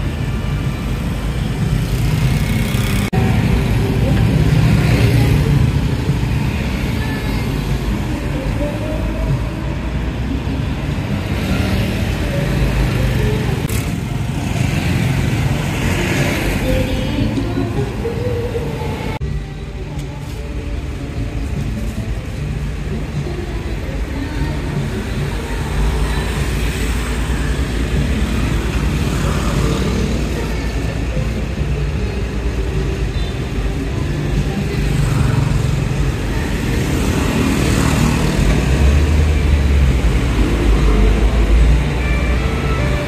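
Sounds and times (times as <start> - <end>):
road traffic rumble: 0.0 - 43.0.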